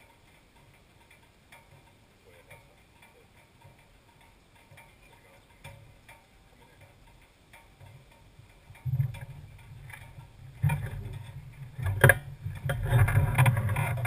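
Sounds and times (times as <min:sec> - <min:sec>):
faint irregular ticks: 0:00.0 - 0:14.0.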